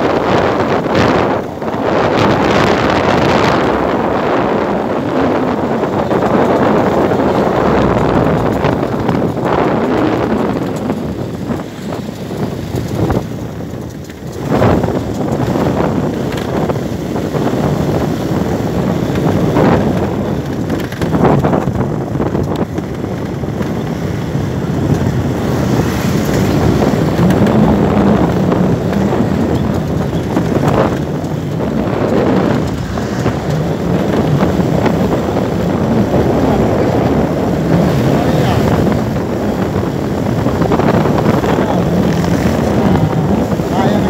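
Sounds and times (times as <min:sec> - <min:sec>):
road and engine noise: 0:00.0 - 0:44.0
wind buffeting microphone: 0:00.0 - 0:44.0.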